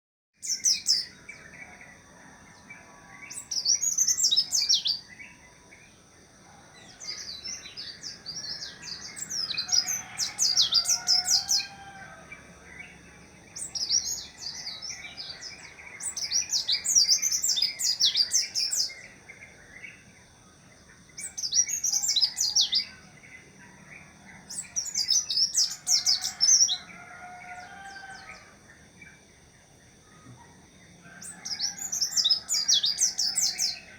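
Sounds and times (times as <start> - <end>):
bird twittering song: 0.4 - 33.9
faint high whine: 0.4 - 33.9.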